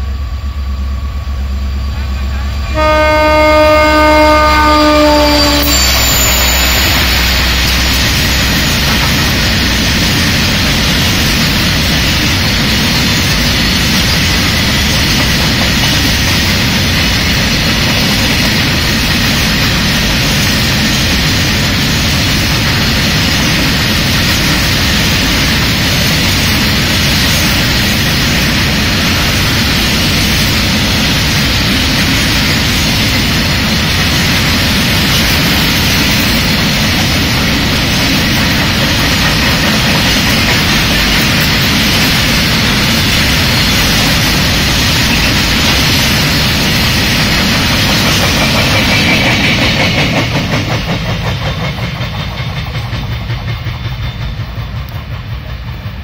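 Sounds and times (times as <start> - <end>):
freight wagons rolling on rails: 5.7 - 56.0.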